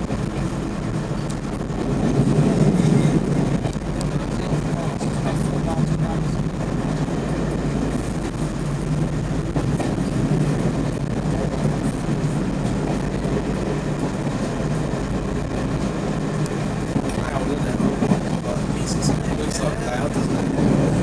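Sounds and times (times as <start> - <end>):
diesel engine drone: 0.0 - 21.0
wheels rumbling on track: 0.0 - 21.0.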